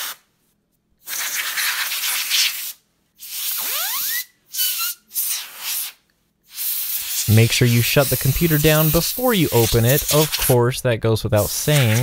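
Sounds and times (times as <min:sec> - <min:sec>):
compressed air hissing blasts: 0:01.1 - 0:10.6, 0:11.4 - 0:12.0.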